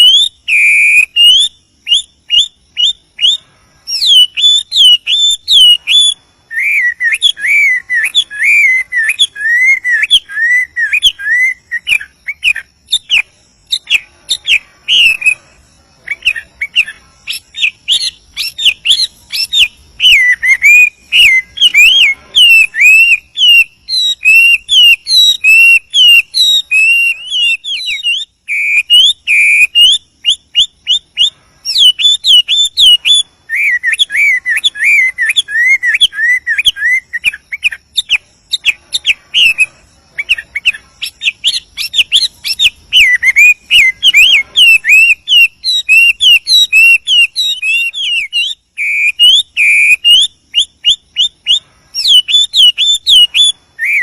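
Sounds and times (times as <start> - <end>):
bird singing whistled song: 0.0 - 54.0.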